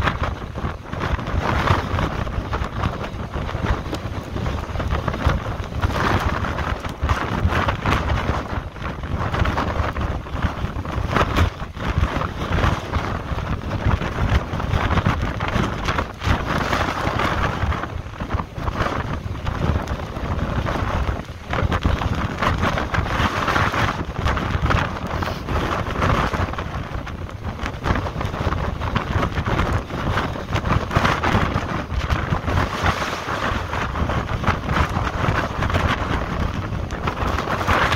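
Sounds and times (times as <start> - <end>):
storm waves breaking on rocks: 0.0 - 37.9
wind rumbling on microphone: 0.0 - 37.9.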